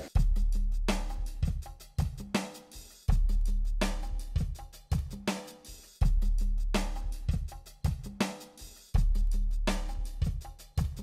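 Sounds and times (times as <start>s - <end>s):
instrumental music with drum beat: 0.0s - 11.0s.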